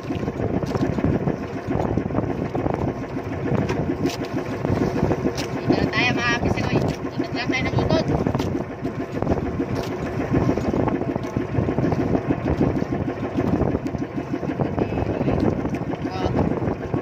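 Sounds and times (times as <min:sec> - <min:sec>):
small boat engine chugging: 0:00.0 - 0:17.0.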